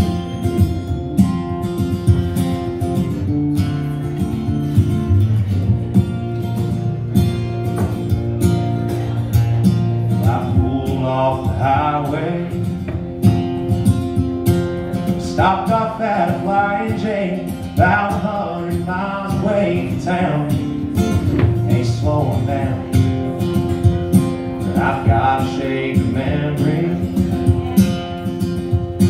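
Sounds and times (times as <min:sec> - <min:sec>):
acoustic guitar country strumming: 0:00.0 - 0:29.0.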